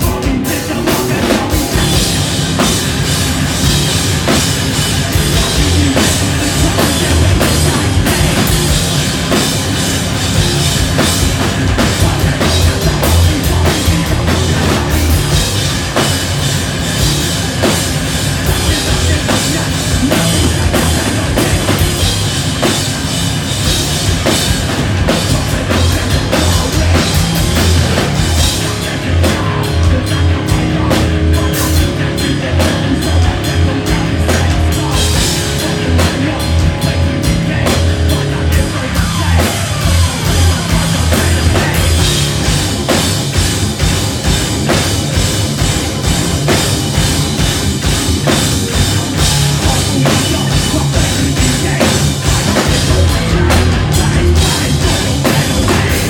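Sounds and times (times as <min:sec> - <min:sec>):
bass guitar: 0:00.0 - 0:56.0
distorted guitars: 0:00.0 - 0:56.0
pounding drum kit: 0:00.0 - 0:56.0.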